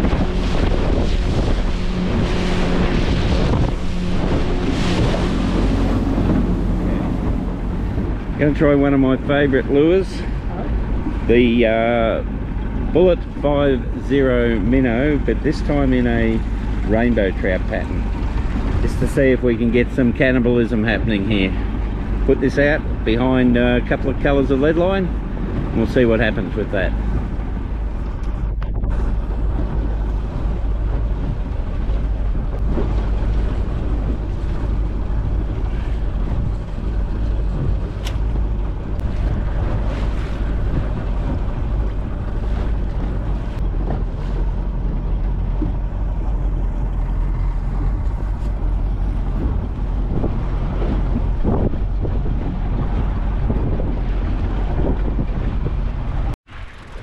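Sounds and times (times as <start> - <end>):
outboard motor running: 0.0 - 57.0
water splashing against hull: 0.0 - 57.0
wind buffeting microphone: 0.0 - 57.0.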